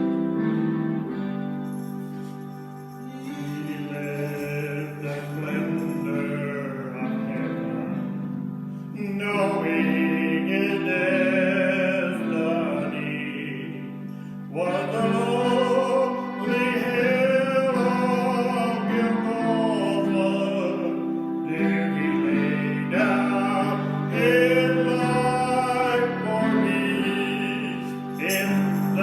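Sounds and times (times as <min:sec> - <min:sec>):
sustained accompaniment chords: 0:00.0 - 0:29.0
man singing gospel: 0:01.7 - 0:08.2, 0:08.9 - 0:29.0.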